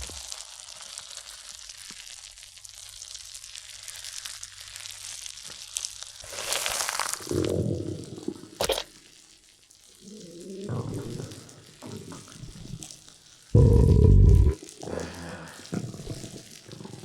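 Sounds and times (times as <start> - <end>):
crackling sizzling noise: 0.0 - 17.0.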